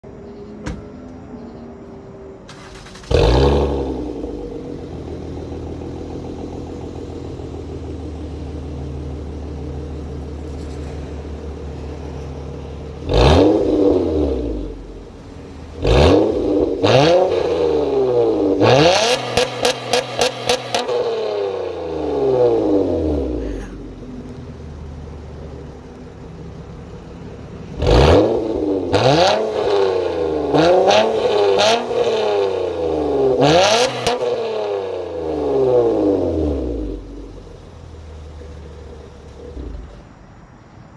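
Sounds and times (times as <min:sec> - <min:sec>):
car engine idling and revving: 0:00.0 - 0:40.9
engine rev stutter: 0:02.5 - 0:40.2.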